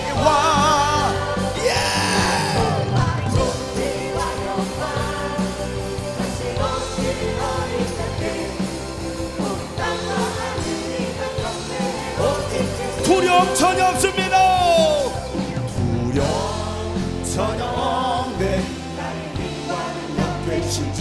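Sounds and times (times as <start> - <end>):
live worship band: 0.0 - 21.0
voices singing: 0.0 - 21.0.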